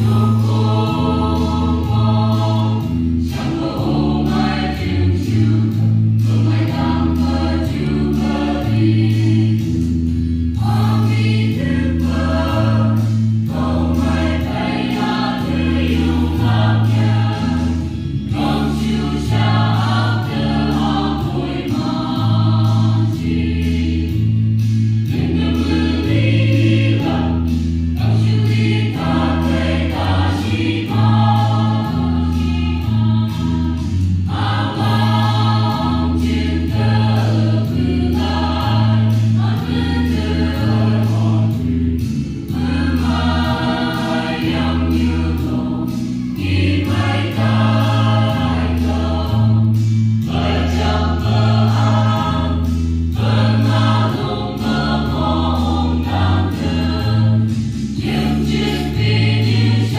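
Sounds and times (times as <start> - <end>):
mixed choir singing: 0.0 - 59.9
pulsing low bass line: 0.0 - 59.9.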